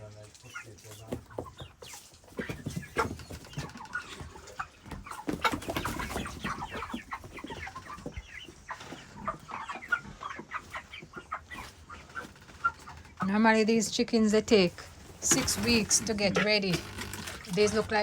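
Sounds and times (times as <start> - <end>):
chickens clucking and cheeping: 0.0 - 18.0.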